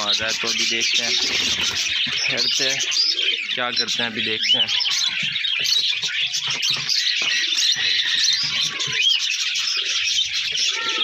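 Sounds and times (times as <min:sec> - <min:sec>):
low pigeon cooing: 0:00.0 - 0:03.7, 0:04.8 - 0:11.0
birds chirping and twittering: 0:00.0 - 0:11.0
rising and falling bird calls: 0:00.0 - 0:11.0.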